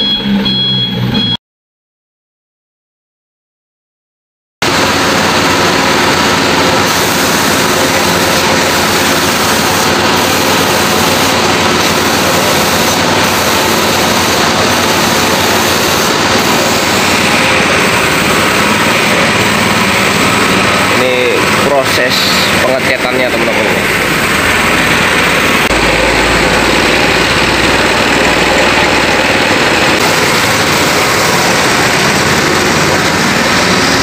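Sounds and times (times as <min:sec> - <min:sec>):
air compressor motor running: 0:04.6 - 0:34.0
spray gun hissing: 0:04.6 - 0:34.0.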